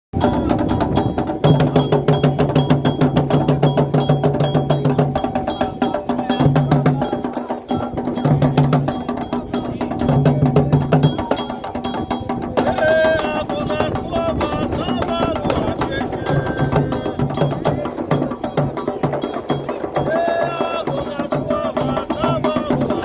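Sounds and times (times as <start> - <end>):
hand drums: 0.2 - 23.0
struck bell or wood block: 0.2 - 23.0.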